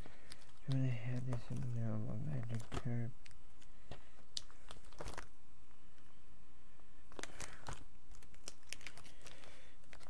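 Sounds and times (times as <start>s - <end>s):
packaging rustling: 0.0s - 5.4s, 7.1s - 10.0s.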